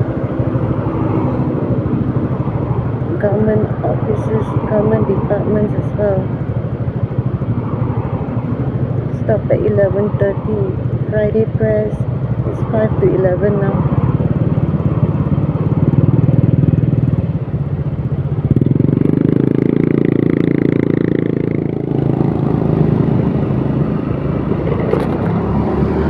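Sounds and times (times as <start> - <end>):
motor scooter engine running: 0.0 - 26.0.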